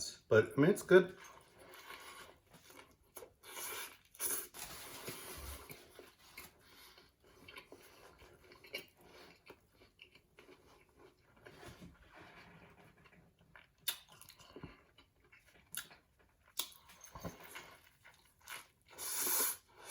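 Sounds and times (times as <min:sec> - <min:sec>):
chewing sandwich: 0:01.2 - 0:19.9.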